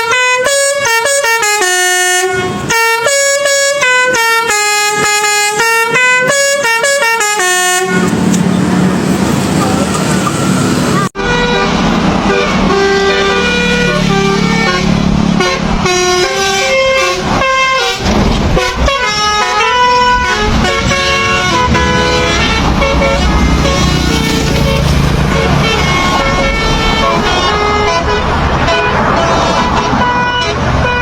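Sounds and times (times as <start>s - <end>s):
truck horn playing a tune: 0.0s - 8.2s, 10.9s - 31.0s
engine humming: 3.8s - 31.0s.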